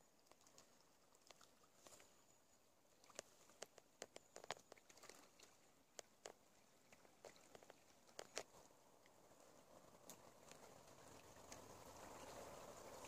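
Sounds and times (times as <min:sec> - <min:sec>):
quiet hiss: 0:00.0 - 0:13.0.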